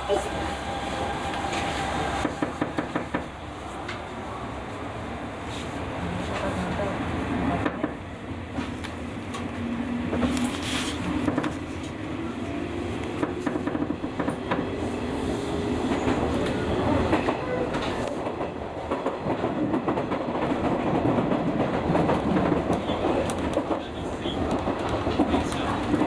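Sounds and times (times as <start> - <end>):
train wheels rumbling and clicking: 1.0 - 4.1, 5.5 - 26.0.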